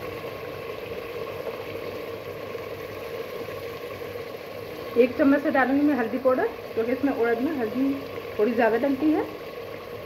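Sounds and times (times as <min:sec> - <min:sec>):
faint steady hum: 0:00.0 - 0:10.0
meat sizzling in oil: 0:00.0 - 0:10.0.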